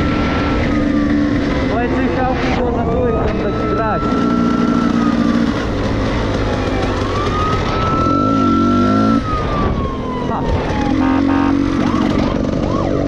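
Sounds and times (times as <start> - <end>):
dirt bike engine running: 0.0 - 13.0
siren wailing: 0.0 - 13.0.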